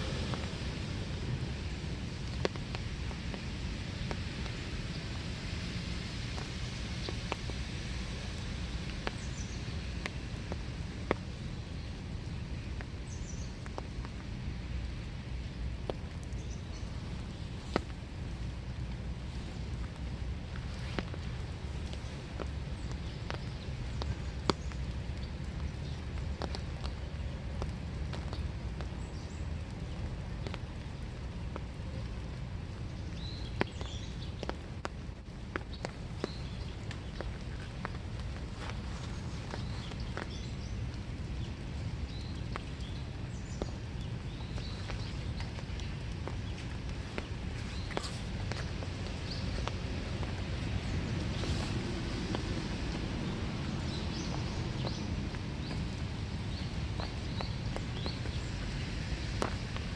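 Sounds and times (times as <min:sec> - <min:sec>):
steady low rumble: 0:00.0 - 0:59.9
steady rain in woodland: 0:00.0 - 0:59.9.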